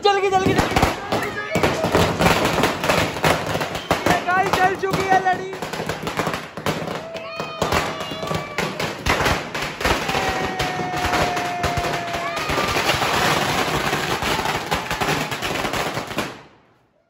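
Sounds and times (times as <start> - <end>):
firecrackers banging: 0.0 - 16.8.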